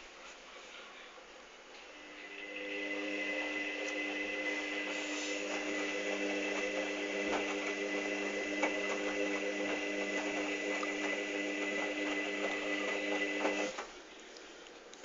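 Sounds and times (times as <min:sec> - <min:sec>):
washing machine motor whine: 0:01.9 - 0:14.1.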